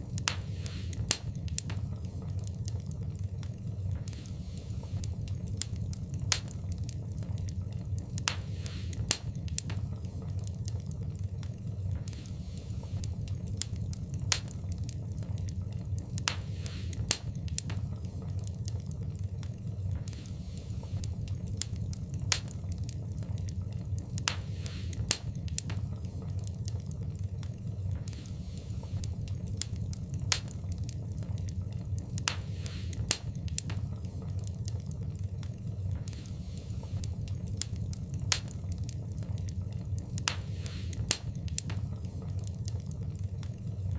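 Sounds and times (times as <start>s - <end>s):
fire crackles and pops: 0.0s - 43.9s
low rumble of flames: 0.0s - 43.9s.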